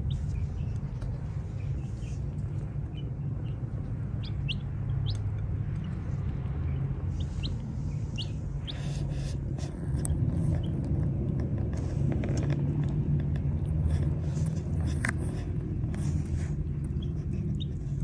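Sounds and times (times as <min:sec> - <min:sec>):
chicks peeping: 0:00.0 - 0:11.7, 0:12.9 - 0:18.0
chicks pecking at feed: 0:00.0 - 0:18.0
steady low hum: 0:00.0 - 0:18.0.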